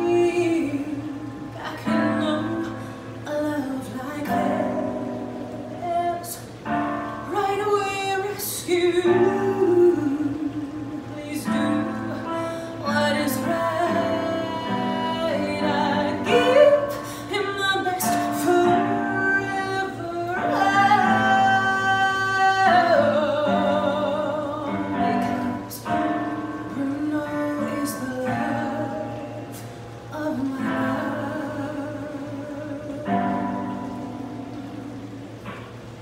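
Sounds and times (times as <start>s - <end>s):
woman singing solo: 0.0s - 35.4s.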